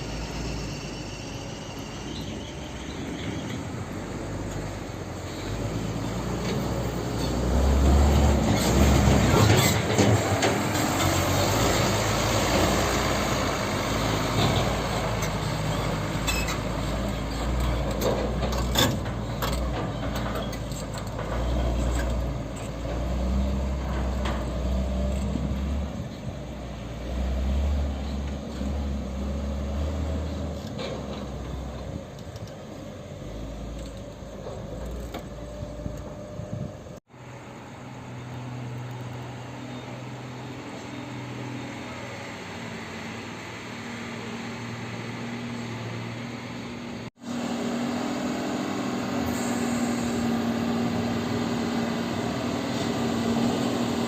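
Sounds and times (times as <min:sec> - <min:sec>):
dump truck engine running: 0:00.0 - 0:54.0.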